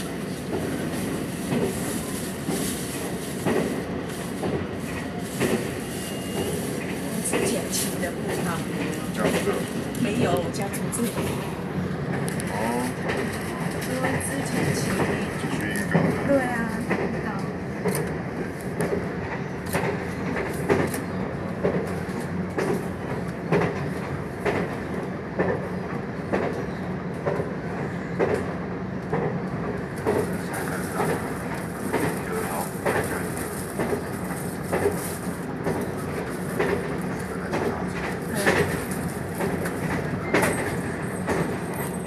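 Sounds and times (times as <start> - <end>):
train rumble from inside carriage: 0.0 - 42.0.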